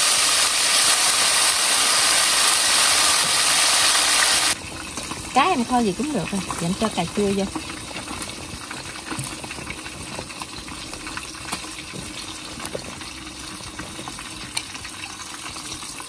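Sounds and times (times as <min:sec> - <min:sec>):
liquid boiling in a wok: 0:00.0 - 0:16.0
small crackles: 0:00.6 - 0:16.0.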